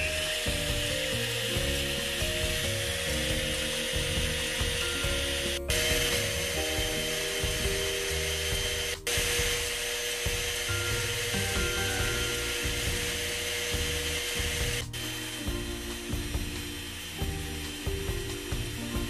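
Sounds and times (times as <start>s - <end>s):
stand mixer whisking: 0.0s - 15.5s, 16.2s - 17.2s.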